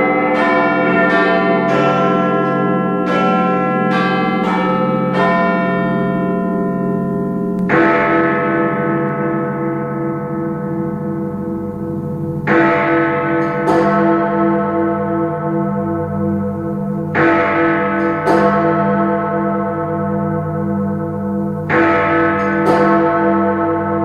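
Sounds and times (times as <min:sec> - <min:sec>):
clock bells striking: 0:00.0 - 0:24.0.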